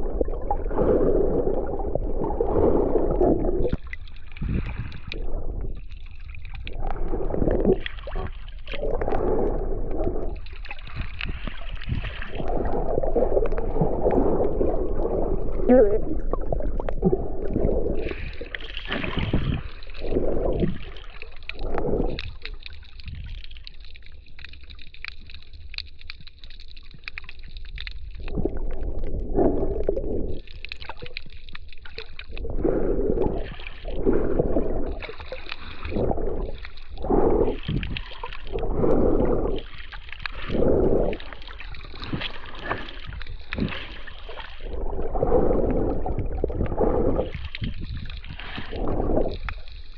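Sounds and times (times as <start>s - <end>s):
low underwater rumble: 0.0s - 49.9s
water sloshing and gurgling: 0.0s - 49.9s.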